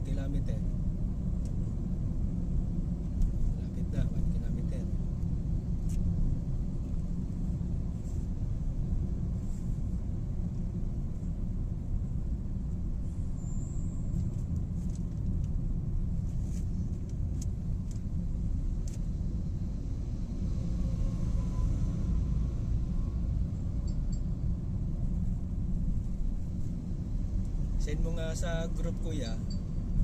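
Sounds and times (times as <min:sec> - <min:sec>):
car cabin road rumble: 0:00.0 - 0:30.0.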